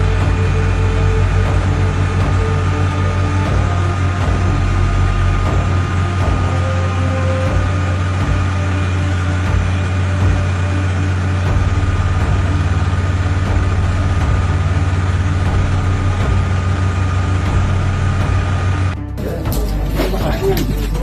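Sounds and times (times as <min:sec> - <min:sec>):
heavy engine humming: 0:00.0 - 0:21.0.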